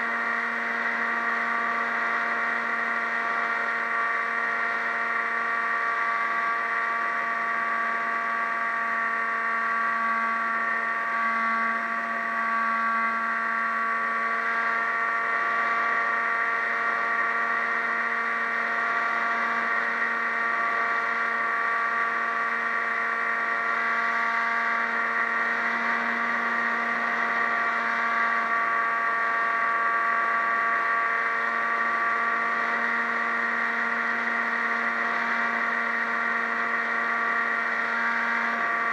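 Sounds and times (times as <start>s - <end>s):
model aircraft motor whine: 0.0s - 38.9s.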